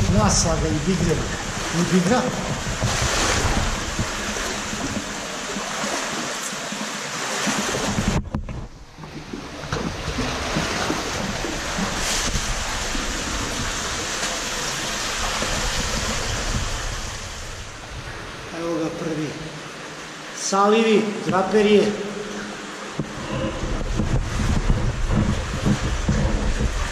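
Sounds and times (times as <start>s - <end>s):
water sloshing and splashing: 0.0s - 26.9s.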